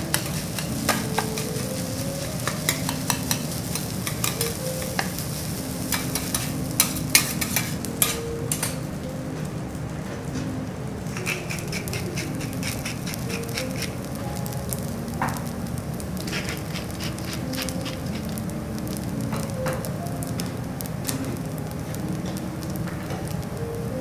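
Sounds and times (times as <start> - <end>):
rice sizzling on a griddle: 0.0 - 24.0.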